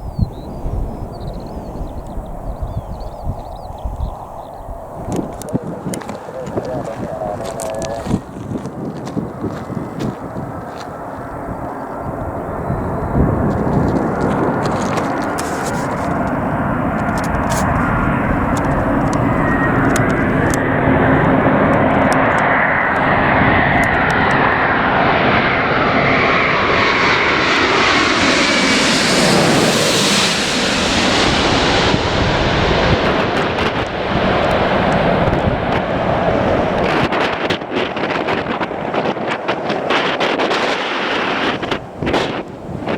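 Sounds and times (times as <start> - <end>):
airliner engine passing: 0.0 - 42.9
wind buffeting microphone: 0.0 - 42.9.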